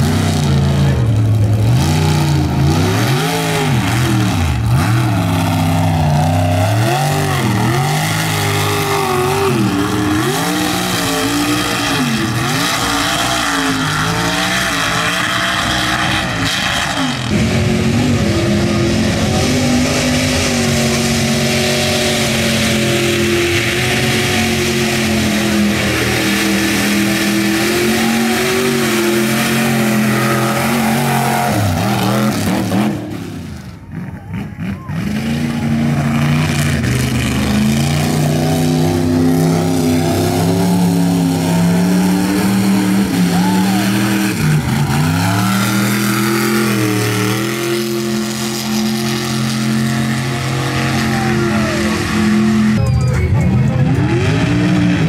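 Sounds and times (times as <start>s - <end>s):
truck engine revving hard: 0.0s - 52.8s, 53.6s - 55.0s.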